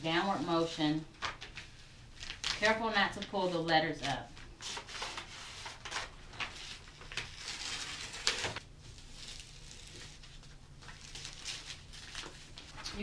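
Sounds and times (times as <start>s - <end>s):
paper rustling and crinkling: 0.2s - 13.0s.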